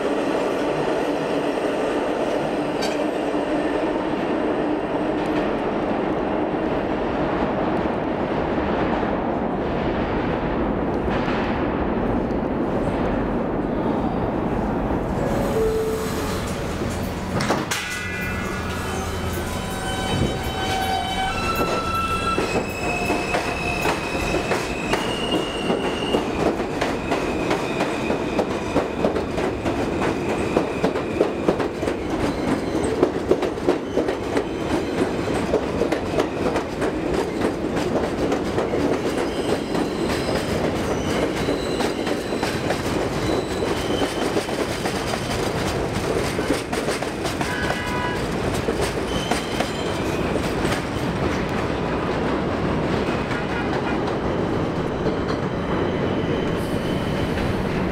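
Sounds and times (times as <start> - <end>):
subway train propulsion whine: 0.0 - 57.9
train cars rumbling by: 0.0 - 57.9.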